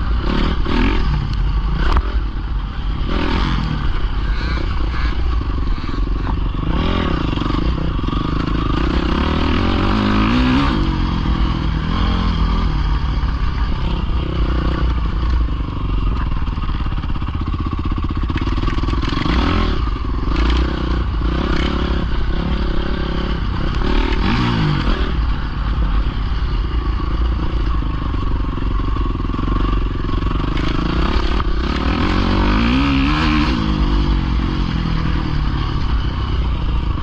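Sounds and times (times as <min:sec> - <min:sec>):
clatter: 0:00.0 - 0:37.0
dirt bike engine revving: 0:00.0 - 0:37.0.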